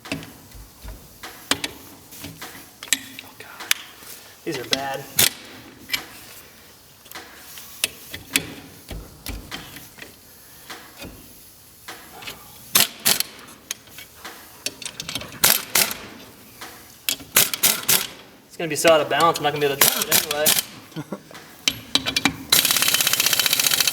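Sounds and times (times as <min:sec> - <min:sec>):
hand tools clicking and clanking: 0:00.0 - 0:06.4, 0:07.0 - 0:23.9.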